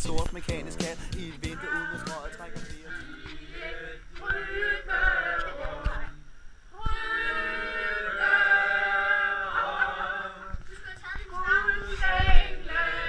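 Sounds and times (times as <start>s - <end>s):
group singing a carol: 0.2s - 13.0s.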